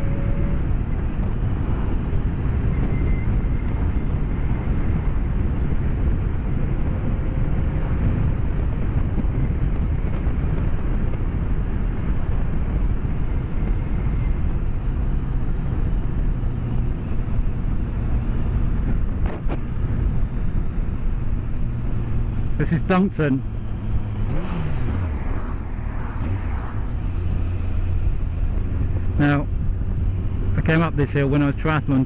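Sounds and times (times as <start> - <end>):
motorcycle engine: 0.0 - 32.0
wind rush in helmet: 0.0 - 32.0.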